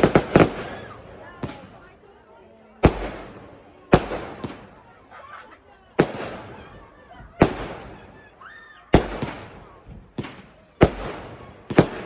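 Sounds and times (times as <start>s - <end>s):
fireworks bangs: 0.0s - 1.9s, 2.8s - 5.0s, 5.9s - 12.0s.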